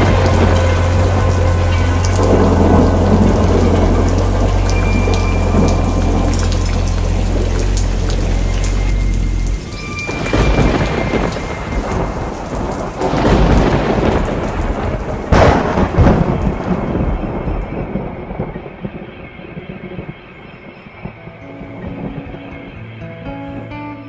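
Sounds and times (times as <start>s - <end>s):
sharp thunderclap: 0.0s - 8.7s, 10.0s - 22.7s
rolling thunder: 0.0s - 23.7s
heavy rain: 0.0s - 24.0s
low drone: 0.0s - 24.0s.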